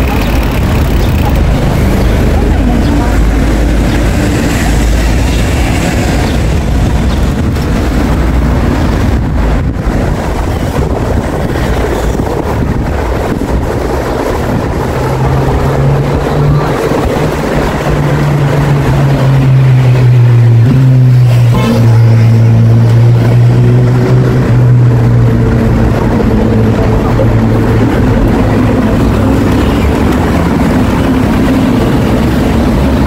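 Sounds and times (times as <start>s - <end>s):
low vehicle engine hum: 0.0s - 33.0s
road traffic noise: 0.0s - 33.0s
wind buffeting microphone: 0.0s - 33.0s.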